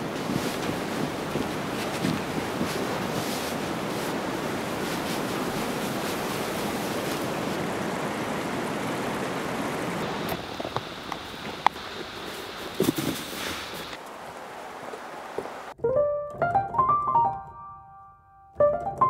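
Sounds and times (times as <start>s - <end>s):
wind rushing across microphone: 0.0s - 15.8s.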